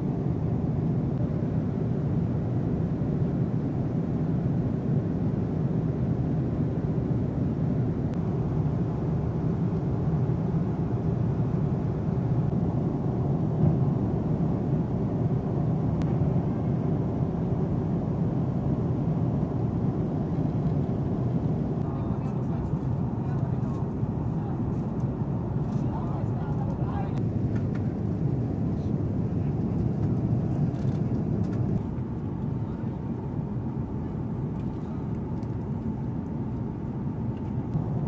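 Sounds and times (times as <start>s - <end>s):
aircraft cabin drone: 0.0s - 38.0s.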